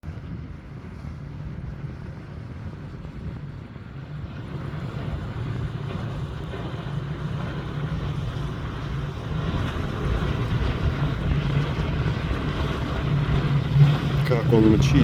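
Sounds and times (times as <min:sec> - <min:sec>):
motorboat engine humming: 0:00.0 - 0:15.0.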